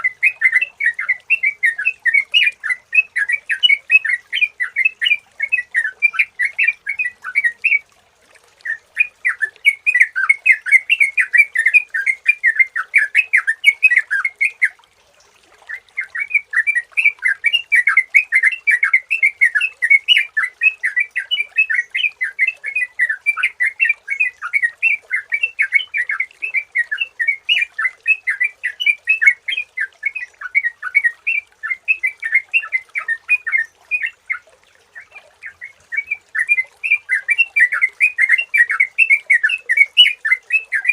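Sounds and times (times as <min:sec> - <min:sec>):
bird singing bubbly chattering phrases: 0:00.0 - 0:14.9, 0:15.6 - 0:40.9.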